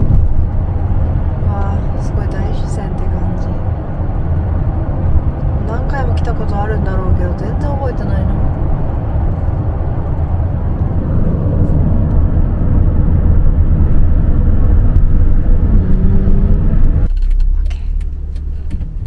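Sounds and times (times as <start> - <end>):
road and wind noise rumble: 0.0 - 19.0.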